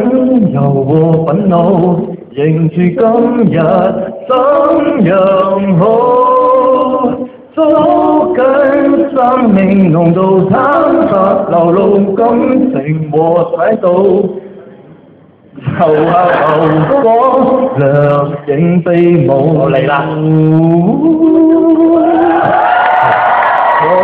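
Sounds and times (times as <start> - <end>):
man singing unaccompanied: 0.0 - 14.4, 15.6 - 22.2.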